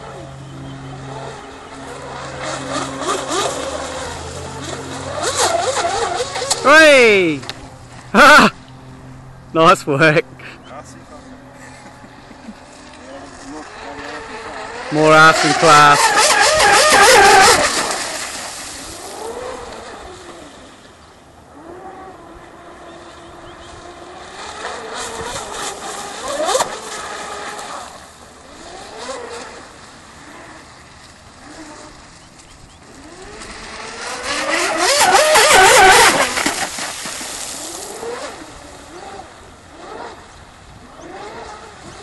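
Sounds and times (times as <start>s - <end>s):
rc boat motor running flat out: 0.0s - 8.9s, 9.6s - 42.0s.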